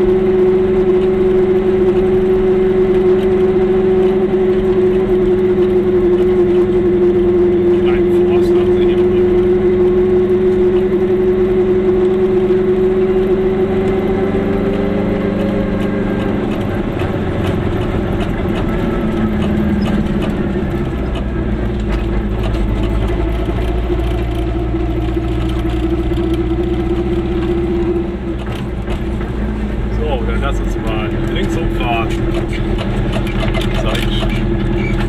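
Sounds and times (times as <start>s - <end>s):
deep rumble: 0.0s - 35.0s
small two-stroke car engine: 0.0s - 35.0s.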